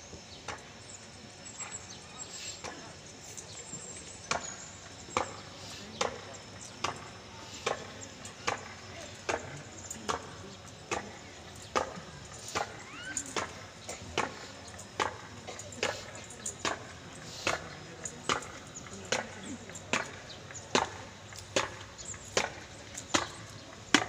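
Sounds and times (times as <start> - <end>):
murmur of voices: 0.0 - 24.0.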